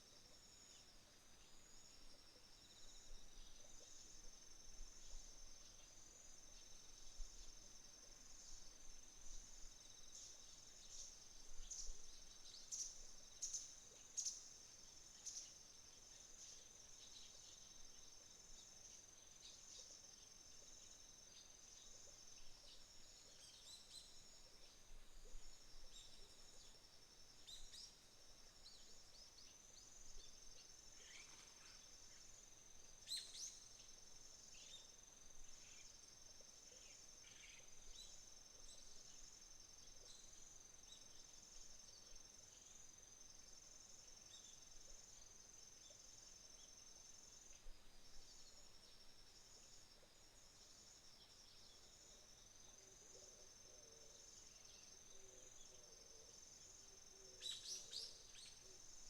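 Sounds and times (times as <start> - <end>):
pulsing insect song: 0.0 - 59.0.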